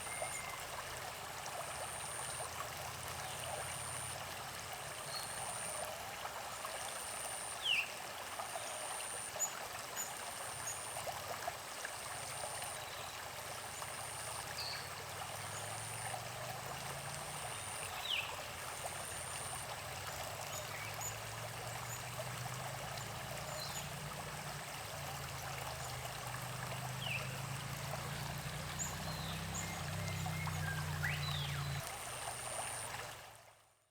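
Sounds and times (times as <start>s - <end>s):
creek water running: 0.0s - 33.9s.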